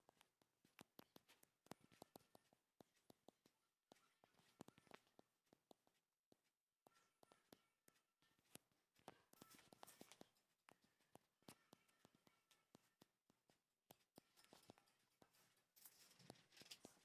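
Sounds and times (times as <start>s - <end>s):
soft clicks and taps: 0.0s - 17.0s.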